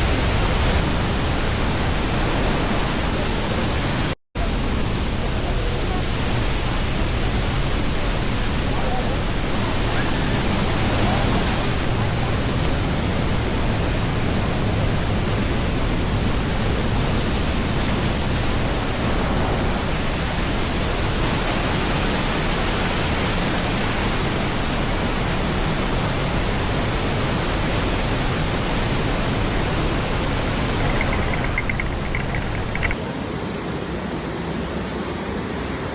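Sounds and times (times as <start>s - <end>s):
waterfall rushing: 0.0s - 35.7s.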